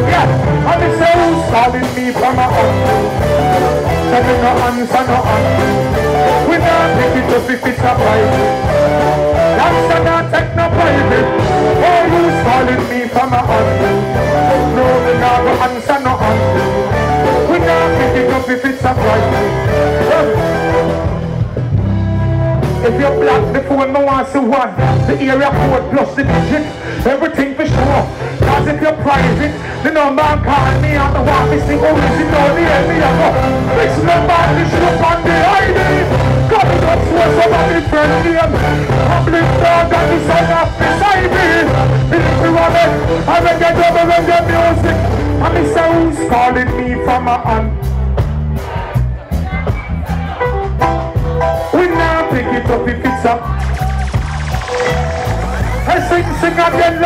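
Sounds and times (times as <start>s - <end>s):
person singing into microphone: 0.0s - 21.0s, 22.9s - 47.7s
live reggae music: 0.0s - 57.0s.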